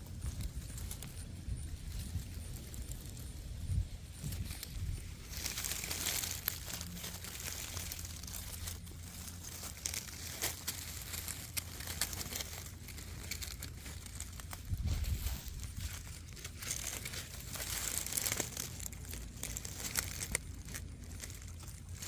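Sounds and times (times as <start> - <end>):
guinea pigs chewing grass: 0.0 - 22.0
low steady hum: 0.0 - 22.0.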